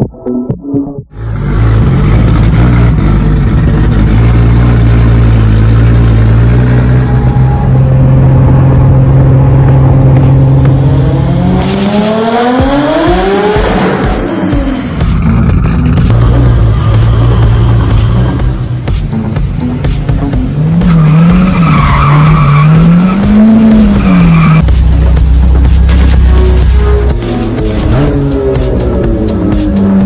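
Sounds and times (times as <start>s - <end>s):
car engine revving: 1.1s - 30.0s.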